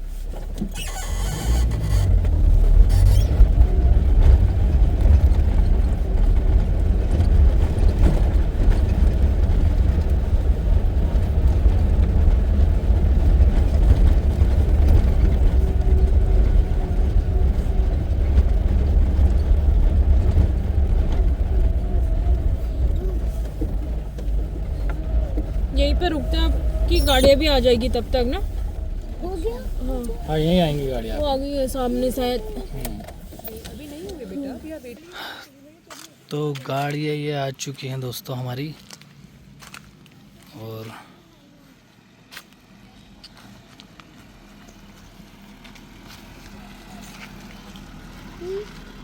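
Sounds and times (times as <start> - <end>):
vehicle engine and road noise: 0.0 - 49.0.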